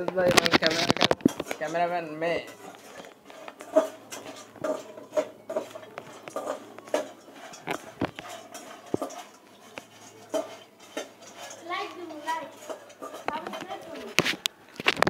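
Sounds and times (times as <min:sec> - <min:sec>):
peanuts rattling in steel pot: 0:00.0 - 0:15.0.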